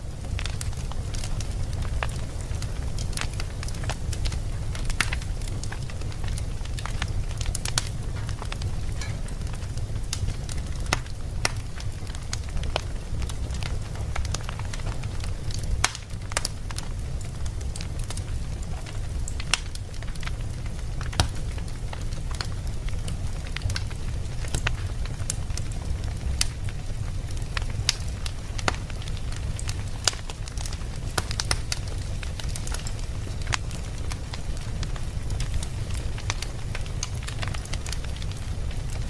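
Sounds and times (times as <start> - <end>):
fire crackling in fireplace: 0.0 - 39.0.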